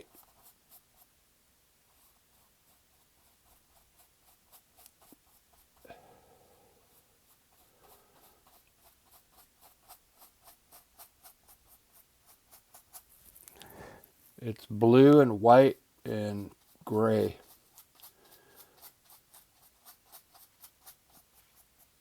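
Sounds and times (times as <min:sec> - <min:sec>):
paintbrush strokes on canvas: 0:00.0 - 0:22.0.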